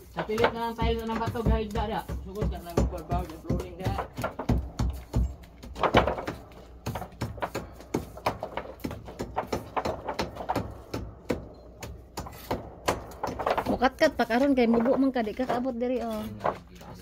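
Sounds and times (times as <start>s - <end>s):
irregular sharp knocks: 0.0s - 17.0s.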